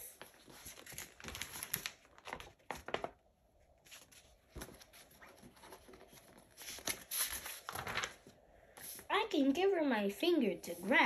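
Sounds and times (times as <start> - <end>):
book pages rustling and turning: 0.0 - 9.4.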